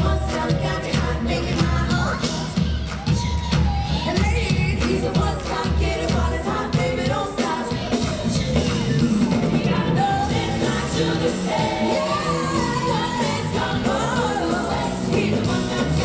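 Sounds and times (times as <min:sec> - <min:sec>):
woman singing with band: 0:00.0 - 0:16.0.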